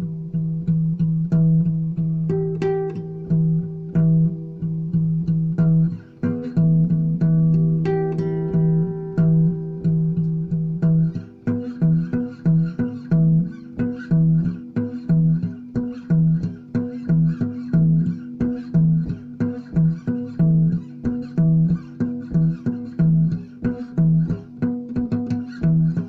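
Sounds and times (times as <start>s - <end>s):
plucked string notes: 0.0s - 26.0s.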